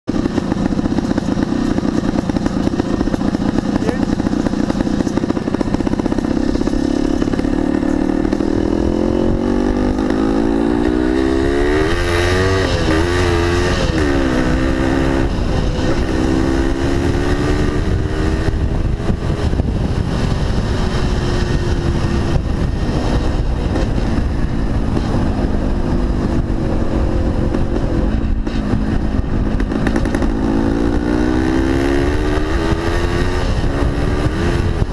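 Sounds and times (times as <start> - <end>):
motorcycle engine running: 0.1 - 34.9
wind rumble on microphone: 0.1 - 34.9.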